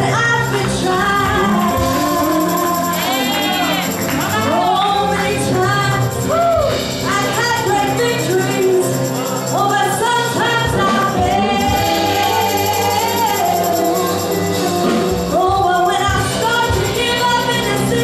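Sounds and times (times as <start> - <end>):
person singing gospel song: 0.0 - 18.0
instrumental accompaniment with quick beat: 0.5 - 18.0.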